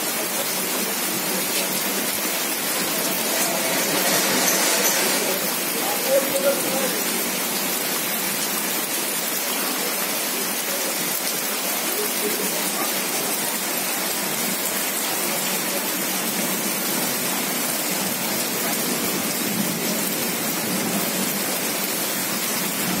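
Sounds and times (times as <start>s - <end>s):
rain on wet pavement: 0.0s - 23.0s.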